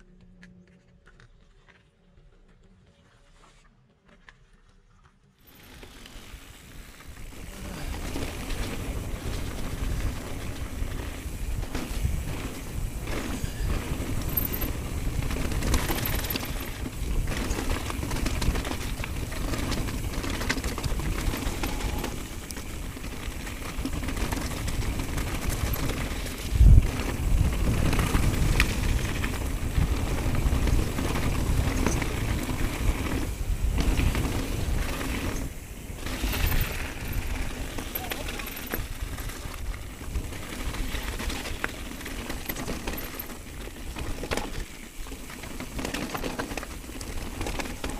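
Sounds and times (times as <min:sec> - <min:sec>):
bike rattling: 0:05.3 - 0:47.9
wind rushing on camera: 0:05.4 - 0:47.9.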